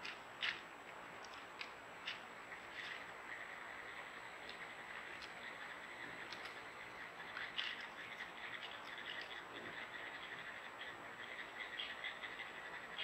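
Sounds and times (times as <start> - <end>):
frogs calling: 0.0 - 13.0
high steady whine: 0.0 - 13.0
insects calling: 0.0 - 13.0.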